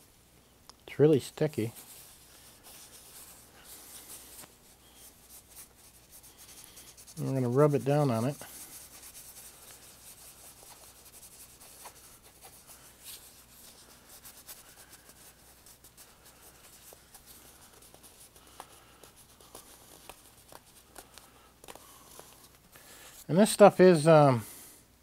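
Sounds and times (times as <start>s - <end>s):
fingers rubbing nylon fabric: 1.4s - 23.3s.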